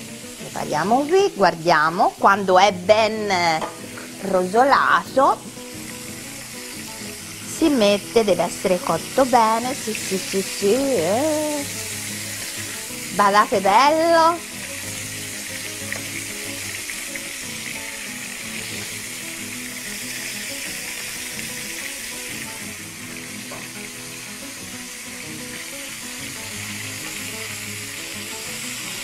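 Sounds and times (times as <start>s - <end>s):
background music: 0.0s - 29.0s
fish sizzling in hot oil: 0.0s - 29.0s.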